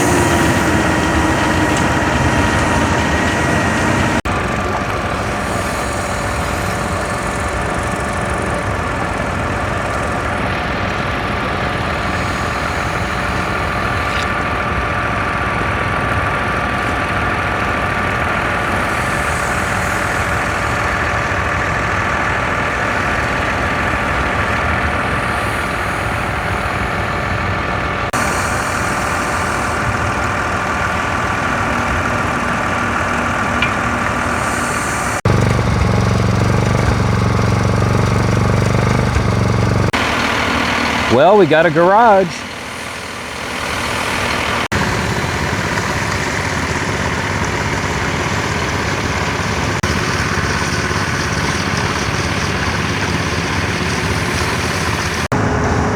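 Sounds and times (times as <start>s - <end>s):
concrete pump drone and whine: 0.0s - 55.9s
heavy diesel truck engines: 0.0s - 55.9s.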